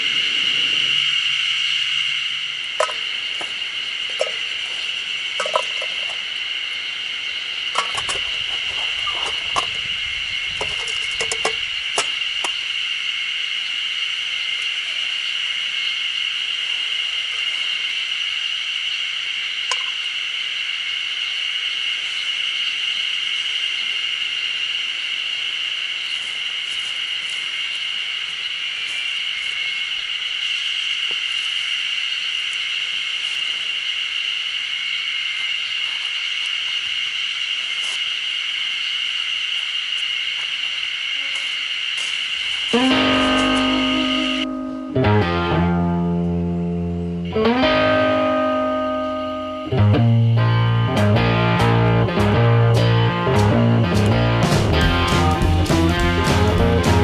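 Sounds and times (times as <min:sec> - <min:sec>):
insects shrilling: 0:00.0 - 0:57.0.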